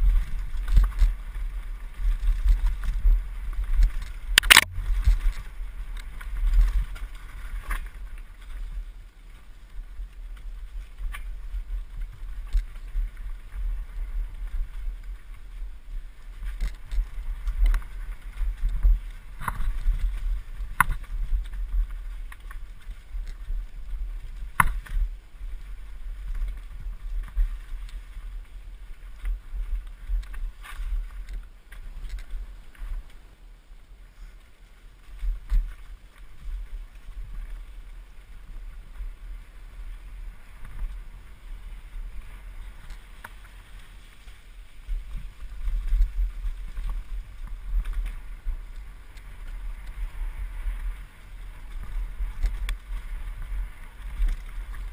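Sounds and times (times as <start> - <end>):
bike rattling over rocks: 0.0 - 33.4, 34.9 - 54.9
wind rumble on microphone: 0.0 - 54.9.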